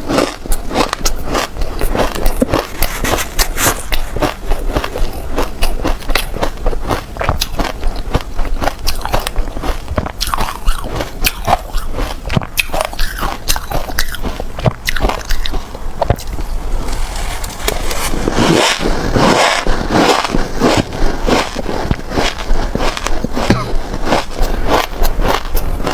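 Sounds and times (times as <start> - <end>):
chewing shaved ice crunching: 0.0 - 16.5, 17.4 - 25.9.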